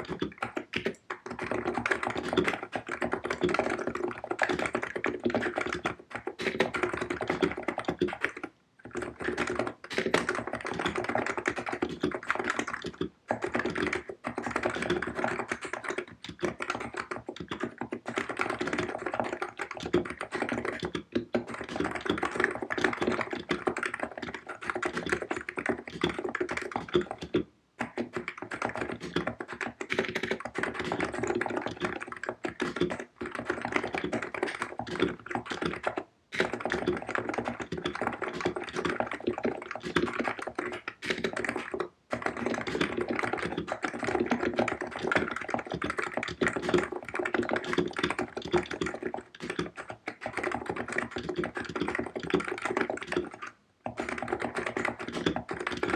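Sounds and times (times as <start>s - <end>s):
keyboard keystroke clacks: 0.0s - 55.9s.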